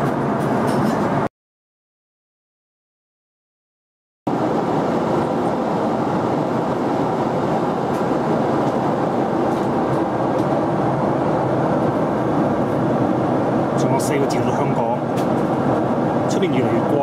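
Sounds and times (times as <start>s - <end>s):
airplane cabin noise: 0.0s - 1.3s, 4.3s - 17.0s.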